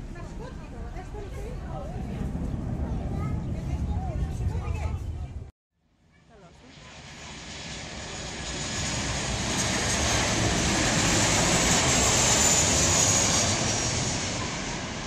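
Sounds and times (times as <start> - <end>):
jet airliner passing low: 0.0 - 5.5, 6.4 - 15.0.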